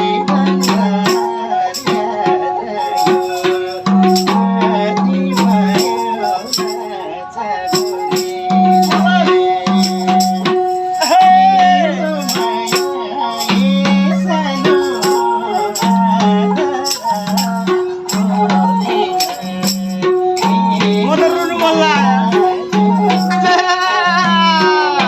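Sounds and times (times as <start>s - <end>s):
bowed string melody: 0.0s - 25.0s
hand drum rhythm: 0.0s - 25.0s.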